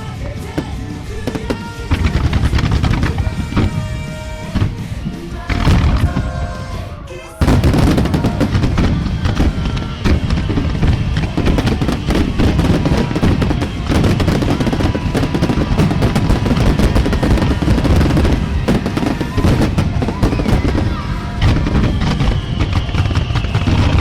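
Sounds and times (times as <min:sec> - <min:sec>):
pop-rock music: 0:00.0 - 0:22.6
fireworks booming and crackling: 0:00.0 - 0:24.0.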